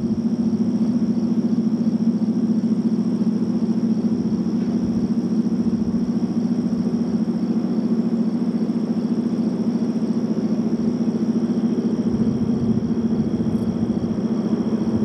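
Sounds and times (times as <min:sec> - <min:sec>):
insects trilling: 0:00.0 - 0:15.0
low engine drone: 0:00.0 - 0:15.0.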